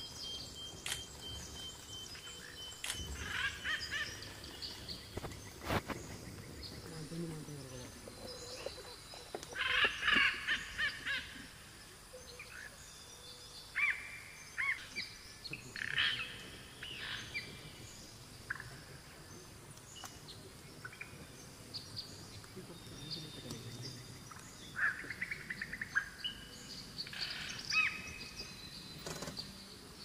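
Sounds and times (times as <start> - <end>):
birds chirping: 0.0 - 30.0
faint background hiss: 0.0 - 30.0.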